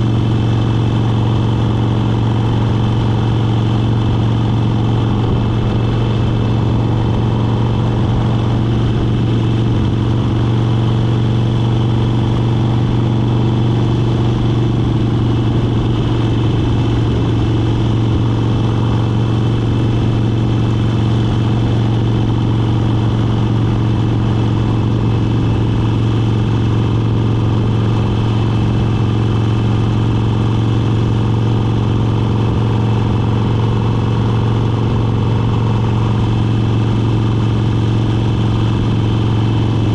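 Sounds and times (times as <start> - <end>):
motorcycle engine cruising drone: 0.0 - 39.9.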